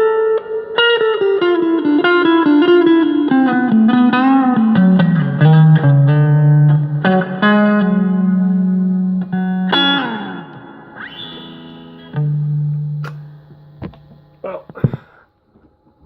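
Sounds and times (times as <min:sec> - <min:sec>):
electric guitar picked notes: 0:00.0 - 0:15.2.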